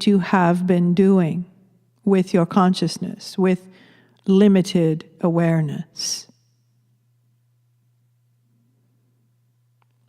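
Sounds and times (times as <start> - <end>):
faint steady low hum: 0.0 - 10.0.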